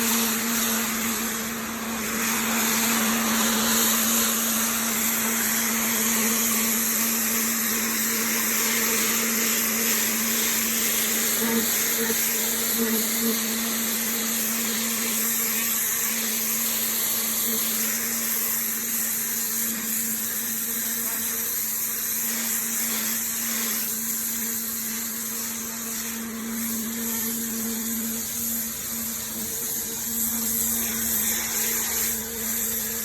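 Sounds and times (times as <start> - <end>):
high-pressure water jet hissing: 0.0 - 33.0
pressure washer motor hum: 0.0 - 33.0.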